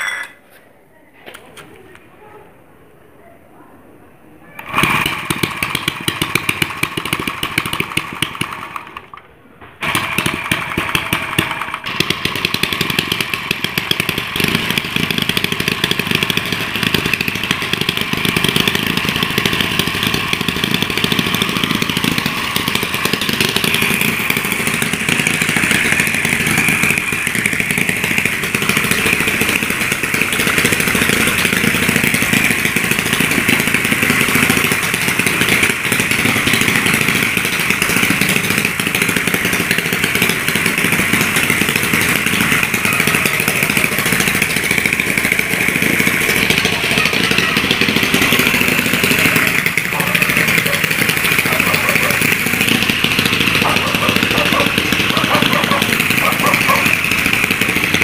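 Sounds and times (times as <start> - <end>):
small petrol engine running: 0.0 - 0.4, 4.6 - 58.0.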